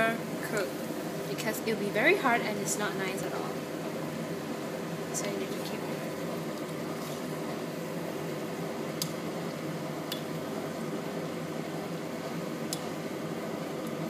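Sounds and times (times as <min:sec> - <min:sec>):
oil sizzling in deep fryer: 0:00.0 - 0:14.0.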